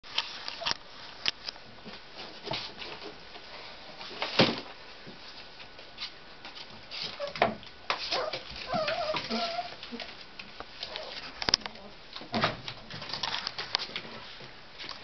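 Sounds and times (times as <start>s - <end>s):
puppies scuffling on tile floor: 1.8s - 15.0s.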